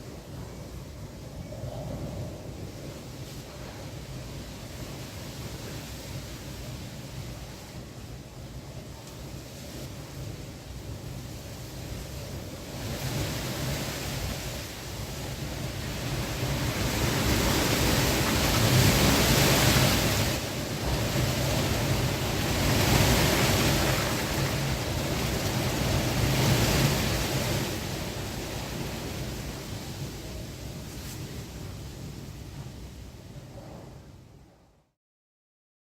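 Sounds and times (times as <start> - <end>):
heavy wind gusts: 0.0 - 34.9.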